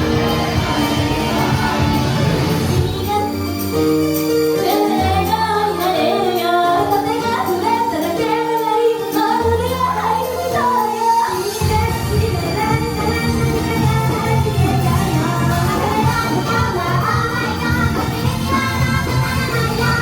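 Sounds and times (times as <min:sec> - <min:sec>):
loud pop backing track: 0:00.0 - 0:20.0
women singing pop song live: 0:00.0 - 0:20.0.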